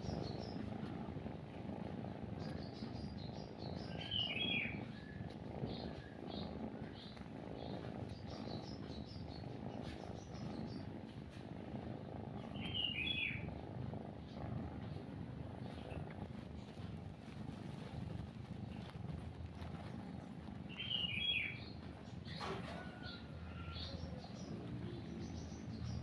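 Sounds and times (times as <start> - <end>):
cat purring: 0.0 - 26.0
small birds chirping: 0.0 - 26.0.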